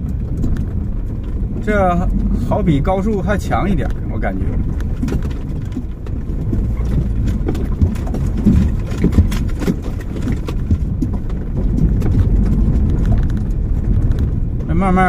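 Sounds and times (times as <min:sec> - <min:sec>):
car engine and tyres rumbling: 0:00.0 - 0:15.0
knocks and rattles: 0:00.0 - 0:15.0.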